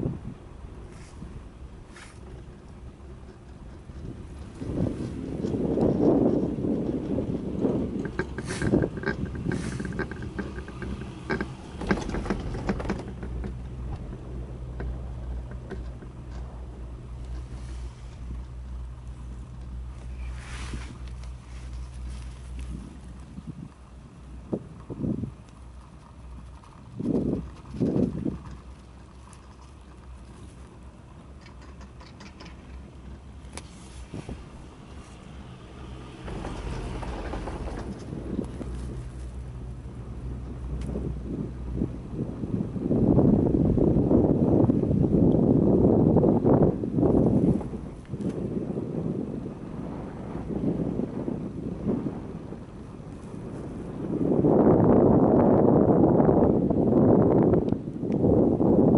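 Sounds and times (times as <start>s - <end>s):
moving lift rumbling: 0.0s - 57.7s
wind on microphone: 0.0s - 58.9s
chairlift rollers clicking and rattling: 0.6s - 57.7s.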